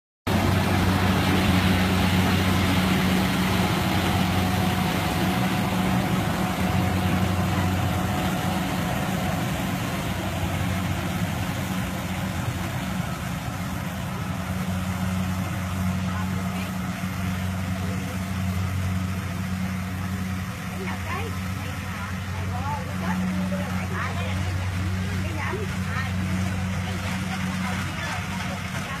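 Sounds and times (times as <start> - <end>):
combine harvester engine drone: 0.3 - 29.0.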